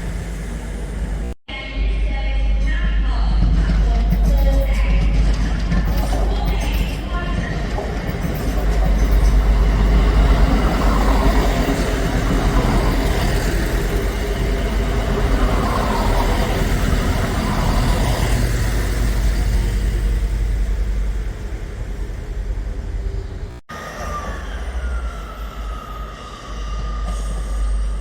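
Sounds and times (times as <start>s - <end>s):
diesel train engine rumble: 0.0s - 28.0s
wheel and rail noise: 3.5s - 28.0s.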